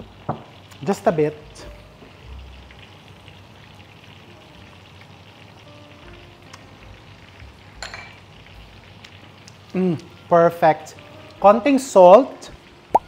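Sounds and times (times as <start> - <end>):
hot oil sizzling in a pan: 0.0 - 13.0.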